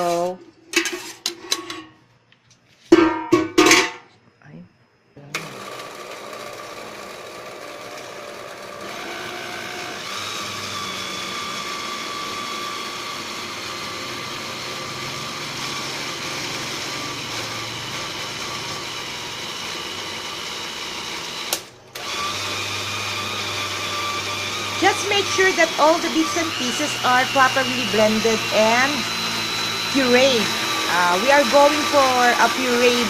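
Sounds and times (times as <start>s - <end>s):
blender motor whining: 0.0s - 0.4s, 5.3s - 33.0s.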